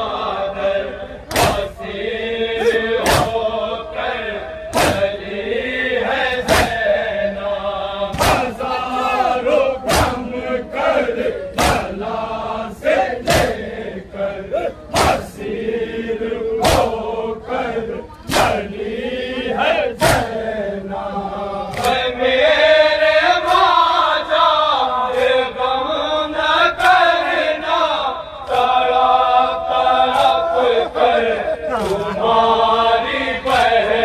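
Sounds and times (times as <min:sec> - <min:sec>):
men chanting a lament: 0:00.0 - 0:34.0.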